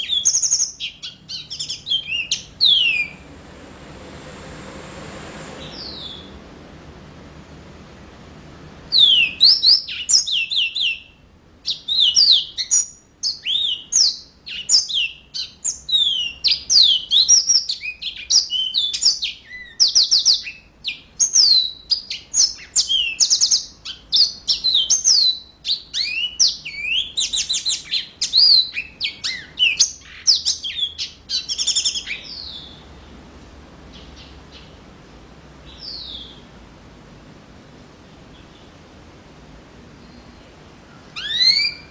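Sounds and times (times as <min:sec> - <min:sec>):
canary singing trills: 0:00.0 - 0:03.4, 0:05.6 - 0:06.4, 0:08.8 - 0:35.0, 0:35.6 - 0:36.6, 0:38.0 - 0:38.9, 0:39.9 - 0:41.9.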